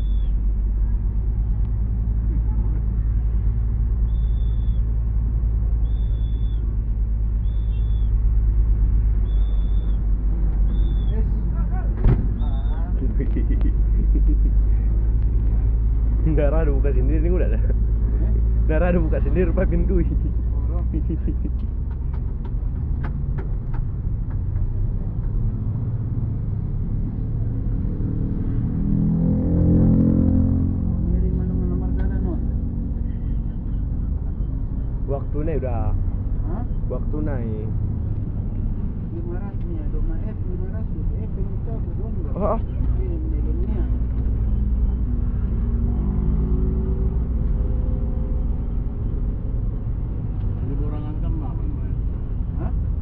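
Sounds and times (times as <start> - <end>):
bus engine droning: 0.0 - 53.0.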